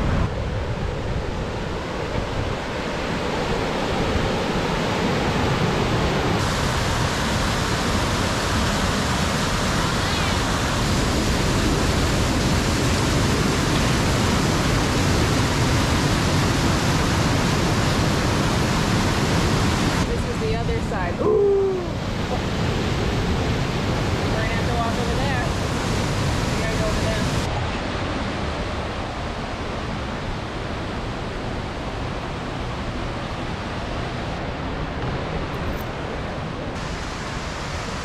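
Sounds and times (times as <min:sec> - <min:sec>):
waterfall rushing: 0:01.6 - 0:38.0.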